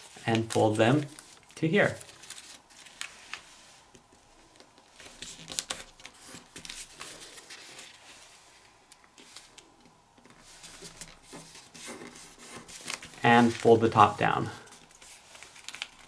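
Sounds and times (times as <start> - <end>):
paper rustling: 0.0 - 16.0.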